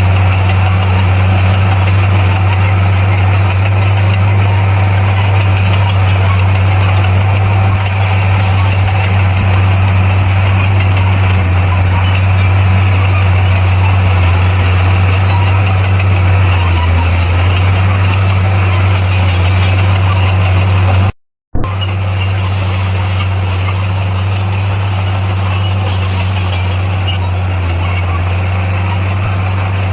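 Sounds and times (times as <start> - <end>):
heavy diesel machinery engine drone: 0.0 - 29.9.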